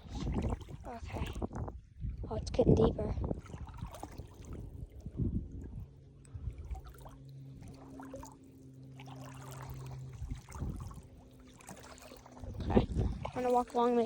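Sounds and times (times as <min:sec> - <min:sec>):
water sloshing around wading legs: 0:00.0 - 0:02.2, 0:03.2 - 0:14.0.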